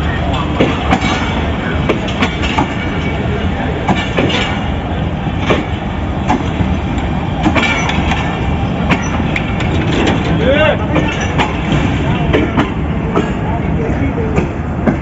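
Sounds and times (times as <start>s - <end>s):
rumble of train wheels on rail: 0.0s - 15.0s
wheels clacking over rail joints: 0.0s - 15.0s.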